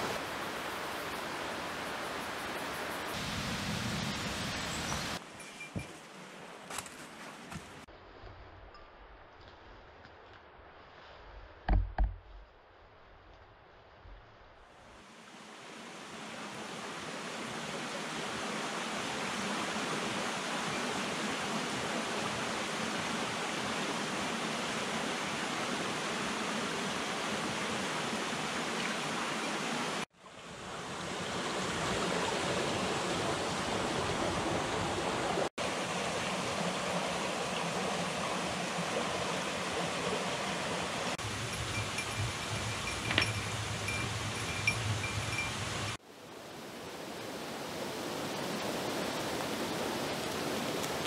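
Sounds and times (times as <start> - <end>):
stream rushing over rocks: 0.0 - 5.2, 15.0 - 51.0.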